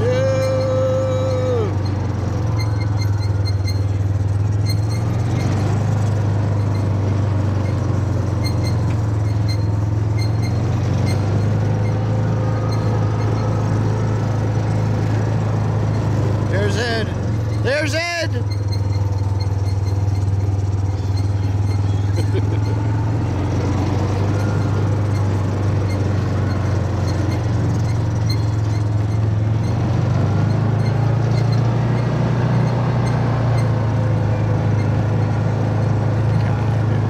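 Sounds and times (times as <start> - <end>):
moving vehicle drone: 0.0 - 37.0.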